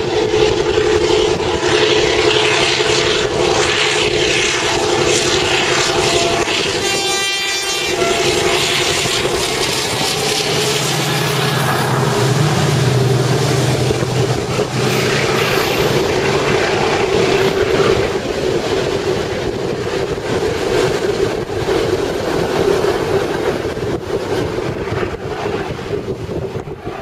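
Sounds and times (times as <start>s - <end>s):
freight wagons rolling on rails: 5.0s - 27.0s.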